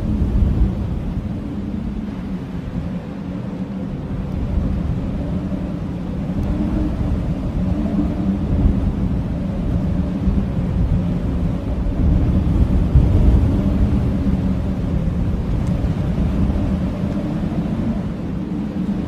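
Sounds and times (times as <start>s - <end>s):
blizzard wind rumbling and howling: 0.0s - 19.0s.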